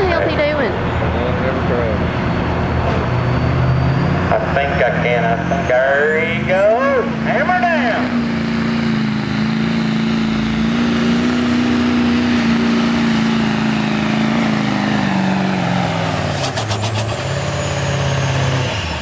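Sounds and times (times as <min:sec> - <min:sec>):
diesel truck engine at full throttle: 0:00.0 - 0:19.0.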